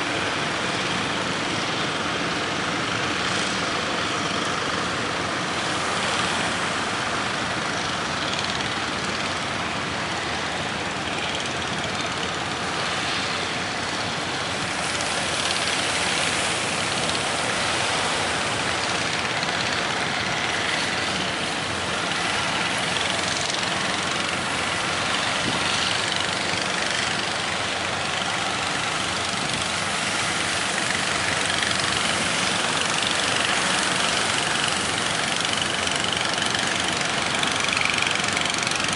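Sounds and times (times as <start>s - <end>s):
boat engine running: 0.0s - 38.9s
rushing water: 0.0s - 38.9s.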